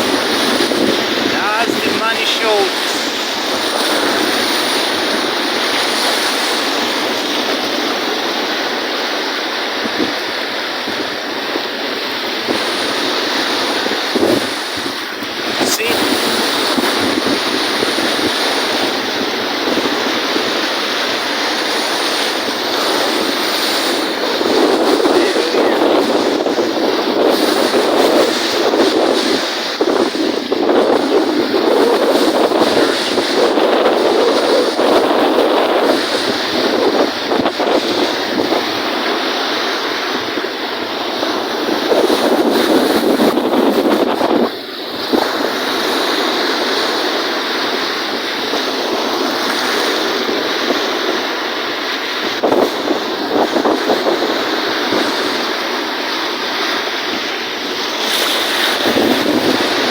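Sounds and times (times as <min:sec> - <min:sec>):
lake waves washing in: 0:00.0 - 0:59.9
wind buffeting microphone: 0:00.0 - 0:59.9.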